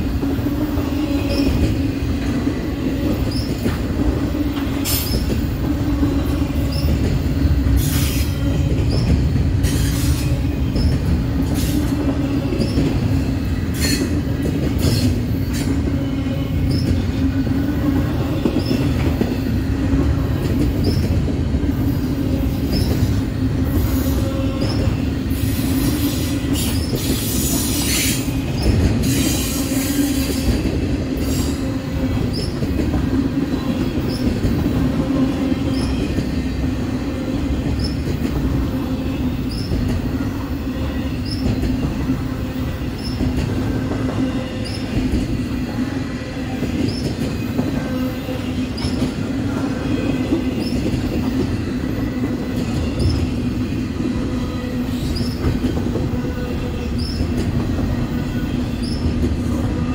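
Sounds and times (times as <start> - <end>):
freight train rumbling: 0.0 - 59.9
train hum: 0.0 - 59.9.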